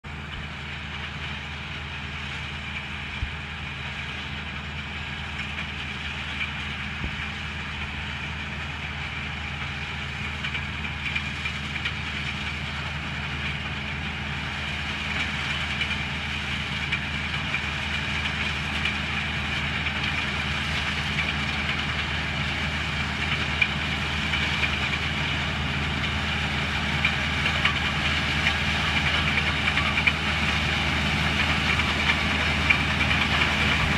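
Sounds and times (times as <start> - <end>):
low engine drone: 0.0 - 33.9.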